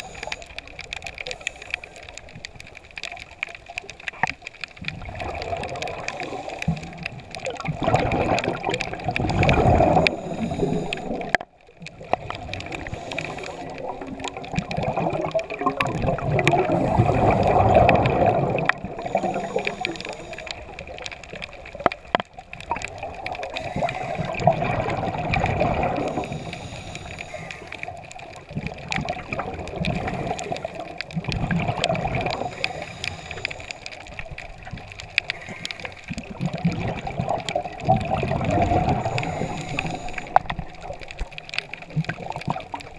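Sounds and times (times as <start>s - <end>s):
scuba regulator breathing underwater: 0.0s - 2.4s, 5.2s - 11.4s, 12.0s - 21.6s, 23.3s - 28.5s, 29.3s - 42.4s
gurgling exhaled bubbles: 0.0s - 42.9s.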